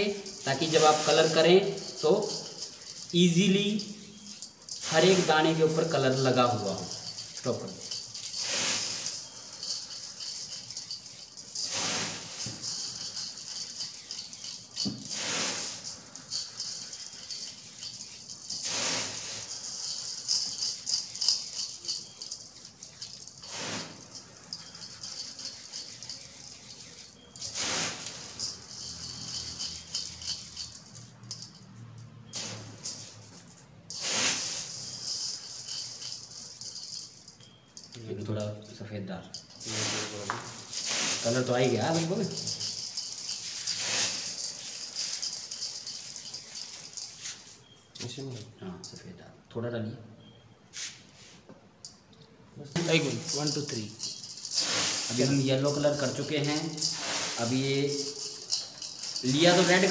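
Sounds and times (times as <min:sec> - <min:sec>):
gritty swish of chips: 0:00.0 - 0:31.4, 0:33.9 - 0:37.0, 0:39.6 - 0:47.6, 0:52.8 - 0:59.9
stone chips rattling in steel bowl: 0:00.0 - 0:49.1, 0:52.8 - 0:59.9.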